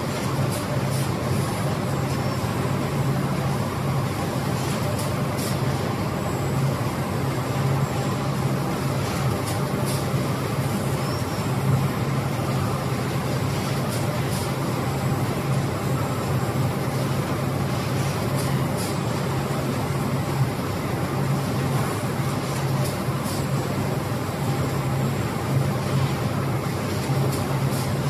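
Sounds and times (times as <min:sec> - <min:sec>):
industrial machinery running: 0:00.0 - 0:28.0.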